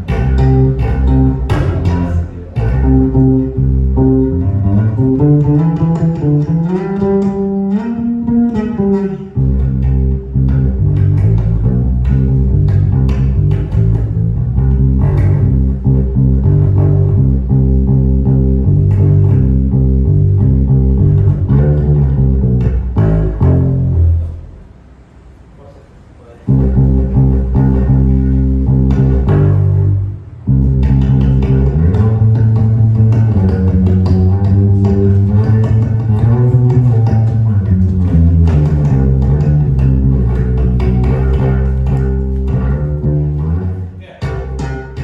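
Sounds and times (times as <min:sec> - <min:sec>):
guitar: 0:00.0 - 0:24.8, 0:26.5 - 0:45.0
bass guitar: 0:00.0 - 0:25.1, 0:26.5 - 0:45.0.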